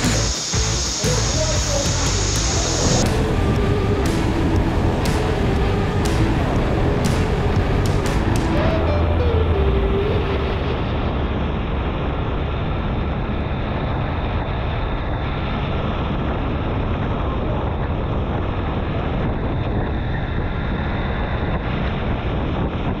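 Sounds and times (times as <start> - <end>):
wind buffeting microphone: 2.2 - 23.0.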